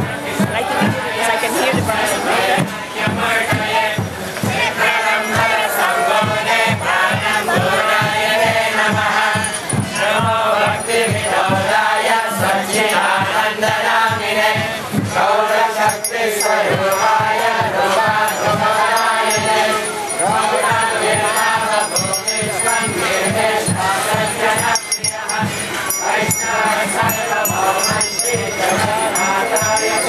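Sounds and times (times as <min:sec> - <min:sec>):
crowd chanting: 0:00.0 - 0:30.0
jingling hand cymbals: 0:00.0 - 0:30.0
steady drum beat: 0:00.0 - 0:30.0.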